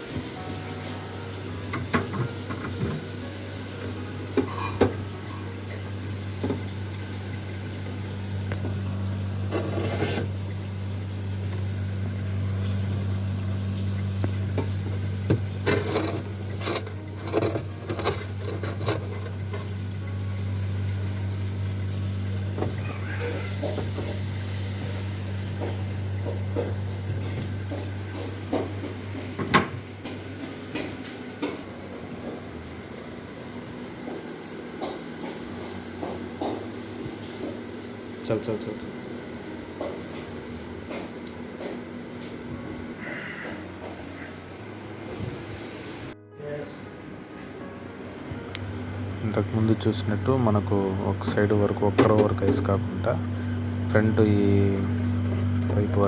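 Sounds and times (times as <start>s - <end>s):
refrigerator compressor humming: 0.0s - 46.3s, 46.9s - 56.0s.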